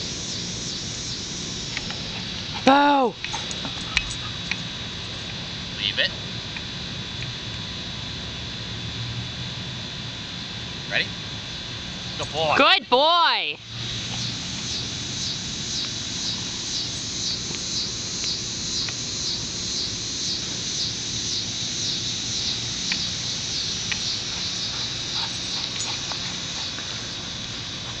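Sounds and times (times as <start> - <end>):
insects singing pulsing: 0.0 - 7.9, 10.2 - 28.0
steady low hum: 0.0 - 28.0.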